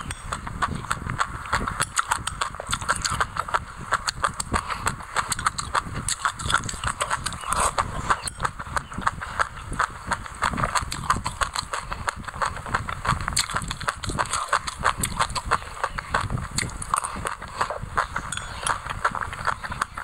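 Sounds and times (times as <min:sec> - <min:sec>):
crunchy chewing: 0:00.0 - 0:20.0.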